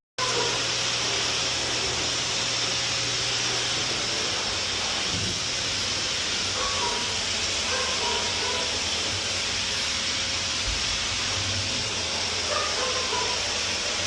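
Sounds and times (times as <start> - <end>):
electric air blower rushing hiss: 0.2 - 14.0.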